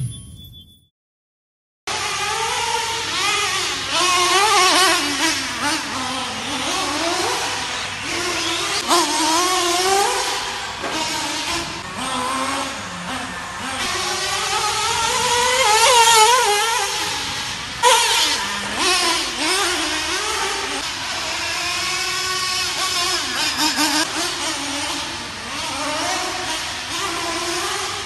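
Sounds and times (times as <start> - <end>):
model car engine revving: 1.9 - 28.0.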